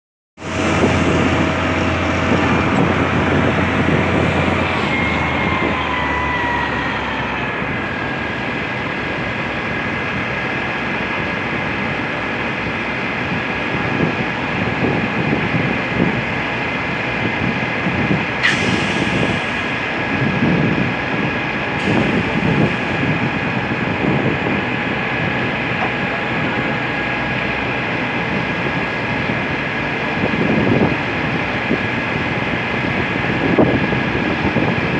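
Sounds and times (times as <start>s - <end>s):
high whine gliding down: 0.4s - 28.6s
heavy construction machinery running: 0.4s - 34.9s.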